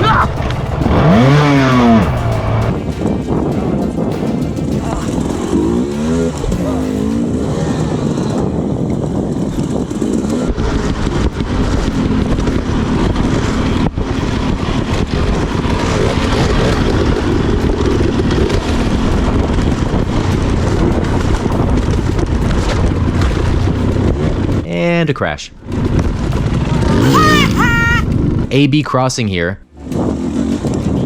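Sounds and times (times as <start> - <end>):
dirt bike engine revving: 0.0 - 24.8, 25.6 - 28.6, 29.6 - 31.0.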